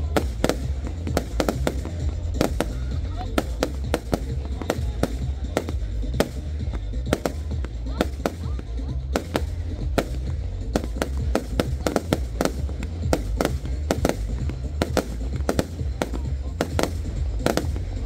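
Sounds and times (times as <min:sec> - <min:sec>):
fireworks bangs: 0:00.0 - 0:18.0
music playing: 0:00.0 - 0:18.0.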